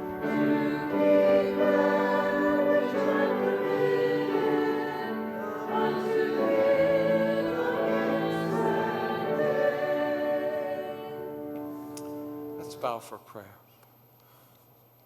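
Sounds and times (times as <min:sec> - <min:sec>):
congregation singing a hymn: 0:00.0 - 0:12.4.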